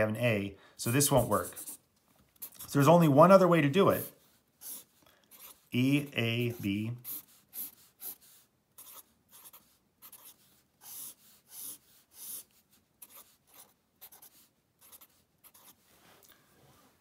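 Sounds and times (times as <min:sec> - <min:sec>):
marker writing on paper: 0:00.9 - 0:15.9.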